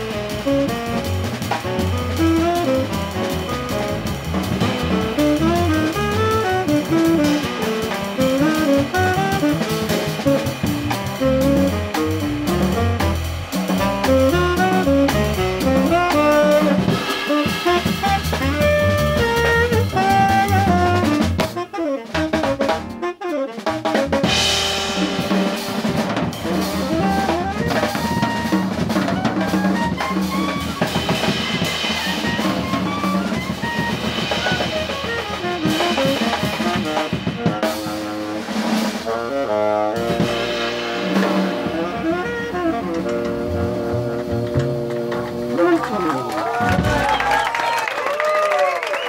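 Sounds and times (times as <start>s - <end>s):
tenor saxophone: 0.0s - 47.1s
double bass: 0.0s - 47.5s
drum kit: 0.0s - 49.0s
piano: 0.0s - 49.0s.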